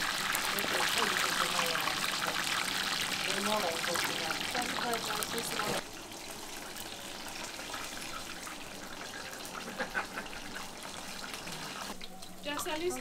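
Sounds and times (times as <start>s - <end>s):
deep-frying sizzle: 0.0s - 13.0s.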